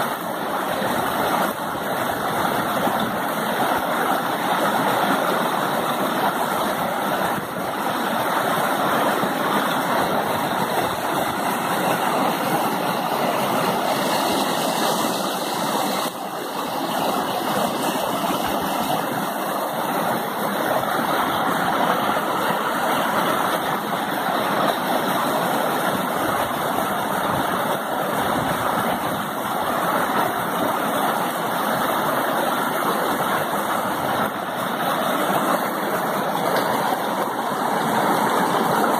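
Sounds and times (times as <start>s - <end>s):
creek rushing over boulders: 0.0s - 38.9s.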